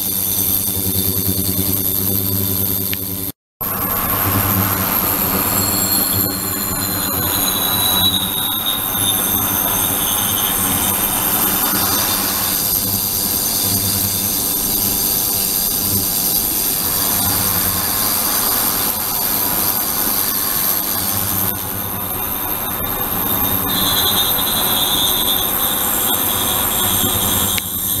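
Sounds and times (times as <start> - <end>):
high-pitched whining tones: 3.6 - 28.0.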